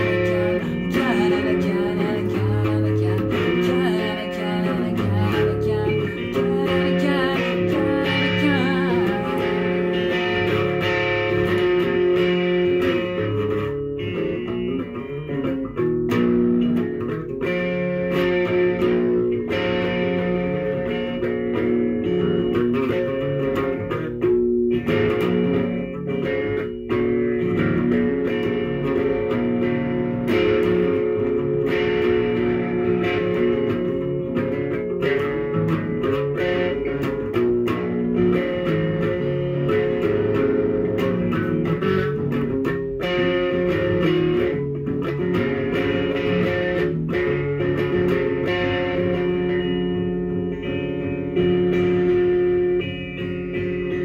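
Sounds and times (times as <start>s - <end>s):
electric guitar: 0.0s - 54.0s.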